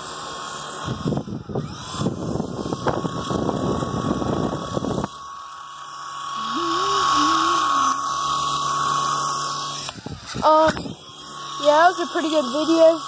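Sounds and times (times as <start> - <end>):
toy helicopter motor whining: 0.0 - 13.0.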